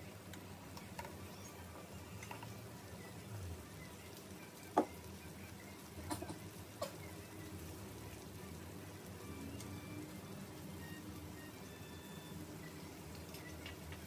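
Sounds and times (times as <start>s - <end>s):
meat sizzling on grill pan: 1.6s - 14.0s.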